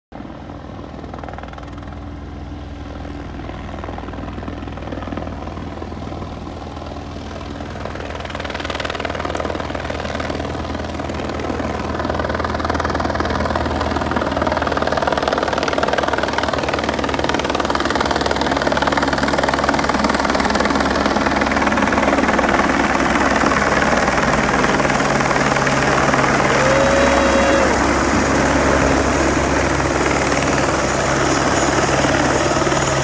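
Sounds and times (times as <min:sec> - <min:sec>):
helicopter rotor and engine drone: 0:00.1 - 0:33.0.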